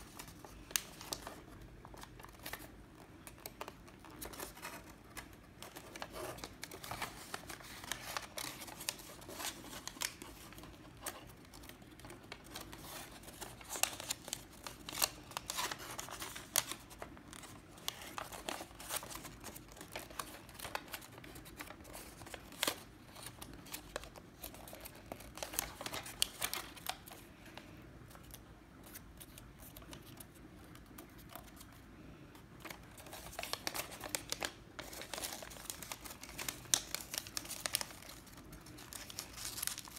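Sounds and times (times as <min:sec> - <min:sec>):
crisp clicks of paper creasing: 0:00.0 - 0:31.8, 0:32.5 - 0:39.9
paper rustling and crinkling: 0:00.0 - 0:39.9.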